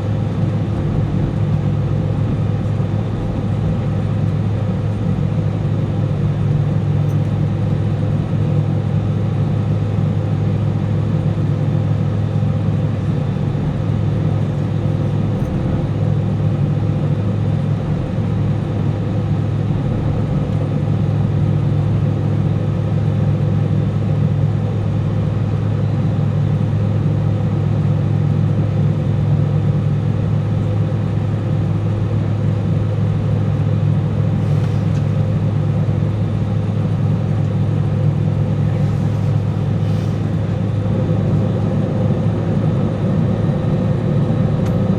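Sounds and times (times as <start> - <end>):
airliner cabin drone: 0.0 - 44.9.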